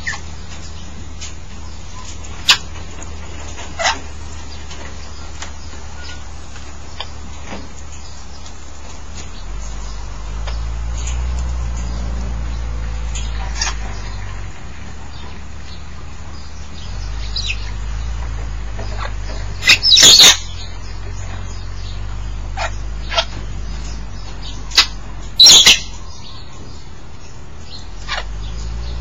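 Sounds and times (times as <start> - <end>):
parrots calling: 0.0 - 8.5, 11.8 - 28.7.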